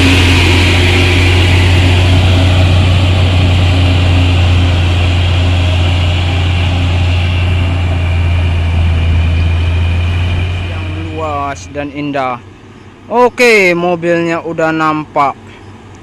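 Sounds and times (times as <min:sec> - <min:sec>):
truck diesel engine droning: 0:00.0 - 0:16.0.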